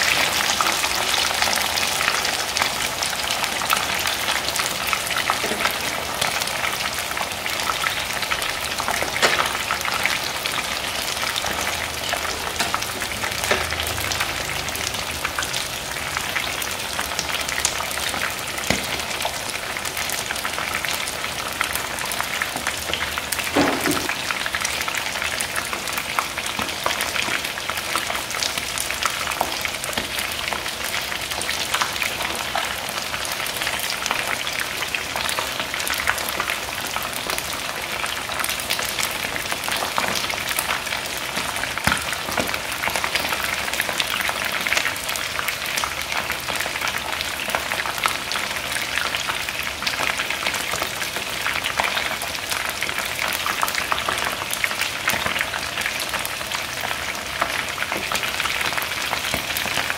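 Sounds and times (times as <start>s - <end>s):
chicken frying in hot oil: 0.0s - 59.9s
oil crackling and popping: 0.0s - 59.9s.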